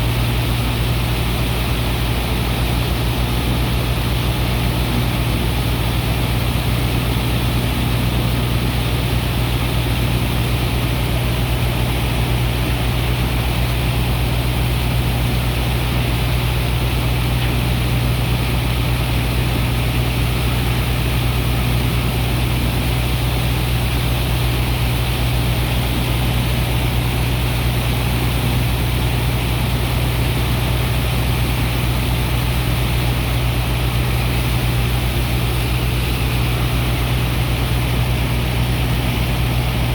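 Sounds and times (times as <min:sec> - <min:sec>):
engine deep hum: 0:00.0 - 0:39.9
pump rushing noise: 0:00.0 - 0:39.9.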